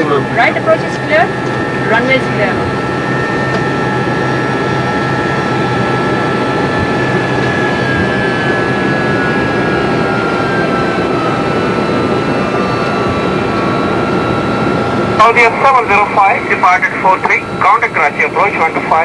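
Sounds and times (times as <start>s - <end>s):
jet engines idling: 0.0s - 19.0s
steady whining tones: 0.0s - 19.0s.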